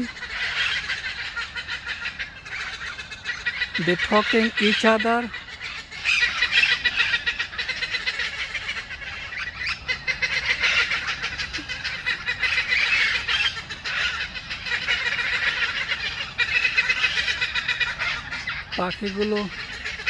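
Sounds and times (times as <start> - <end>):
parakeets chattering and screeching: 0.0 - 20.0.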